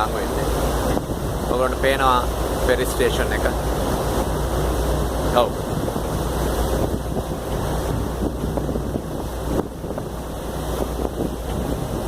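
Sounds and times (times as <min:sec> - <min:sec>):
ferry engine rumble: 0:00.0 - 0:12.0
water wash: 0:00.0 - 0:12.0
wind buffeting microphone: 0:00.0 - 0:12.0.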